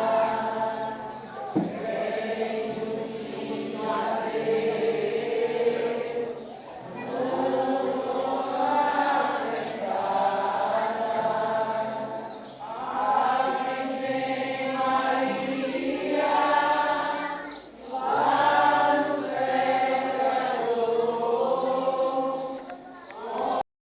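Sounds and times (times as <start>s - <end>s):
group singing a hymn: 0.0s - 23.6s.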